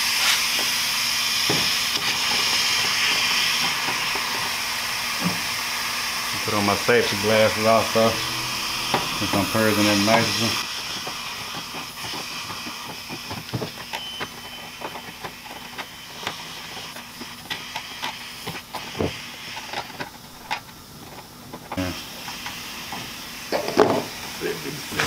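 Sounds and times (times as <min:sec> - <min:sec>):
gas hissing from tubing: 0:00.0 - 0:21.0, 0:21.7 - 0:25.0.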